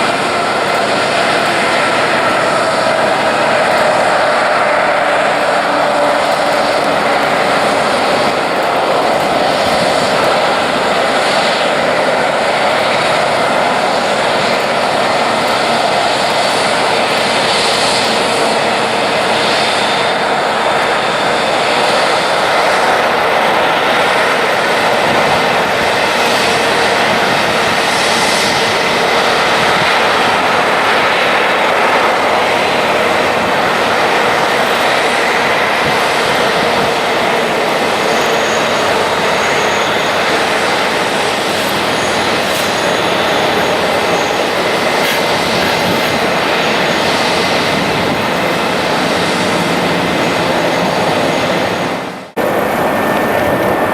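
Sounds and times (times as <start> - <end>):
jet engine roar with high whine: 0.0 - 53.9.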